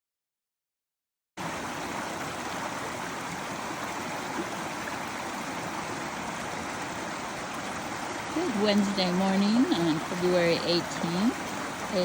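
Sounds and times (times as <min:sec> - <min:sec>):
creek water rushing: 0:01.4 - 0:12.0.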